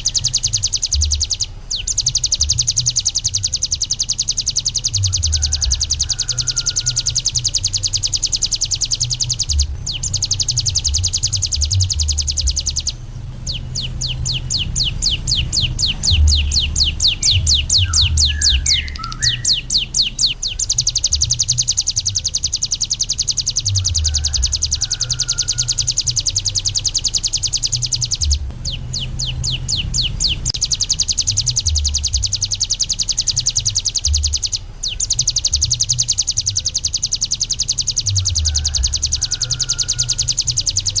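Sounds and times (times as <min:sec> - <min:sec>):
bird singing fast high trills: 0:00.0 - 0:41.0
low hum: 0:00.0 - 0:41.0.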